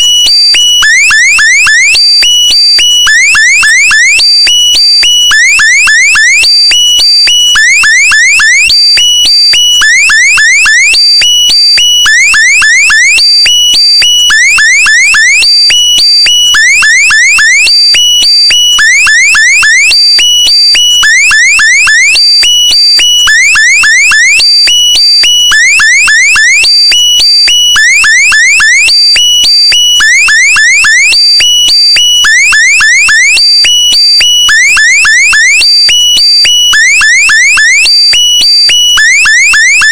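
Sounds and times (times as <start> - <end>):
electronic alarm beeps and chirps: 0.0 - 39.9.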